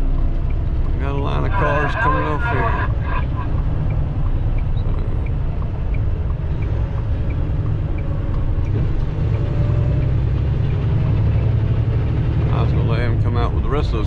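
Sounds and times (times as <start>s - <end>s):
turn signal ticking: 0.0s - 12.0s
truck engine and road rumble: 0.0s - 14.0s.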